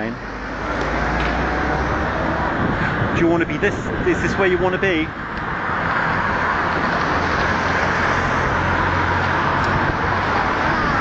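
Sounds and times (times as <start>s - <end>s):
passing motor vehicle: 0.0s - 11.0s.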